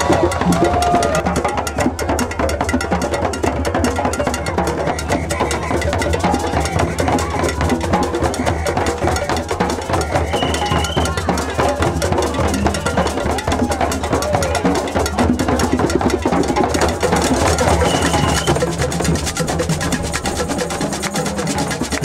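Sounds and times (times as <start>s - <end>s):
hand drums playing together: 0.0s - 22.0s.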